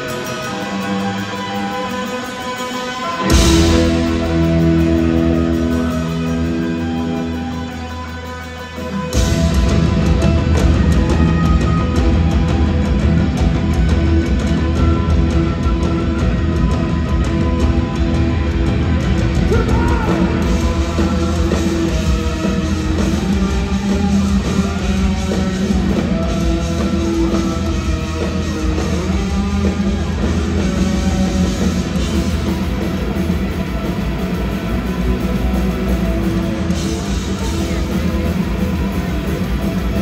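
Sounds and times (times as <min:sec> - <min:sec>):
punk rock band playing live: 0:00.0 - 0:40.0.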